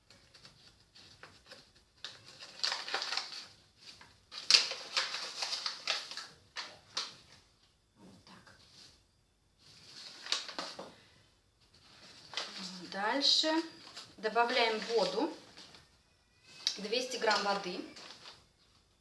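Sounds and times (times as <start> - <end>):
herb packet rustling: 0.0 - 7.6, 9.6 - 18.9.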